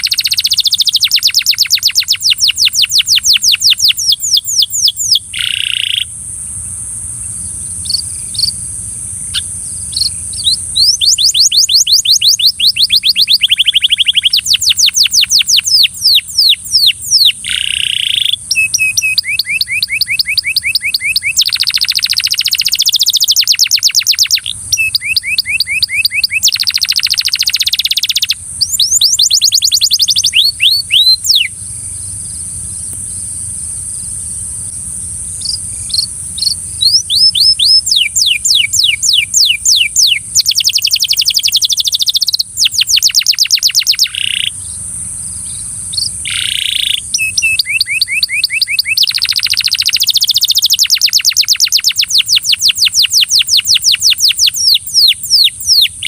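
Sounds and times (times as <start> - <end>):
canary singing fast trills: 0.0 - 34.2, 35.3 - 56.0.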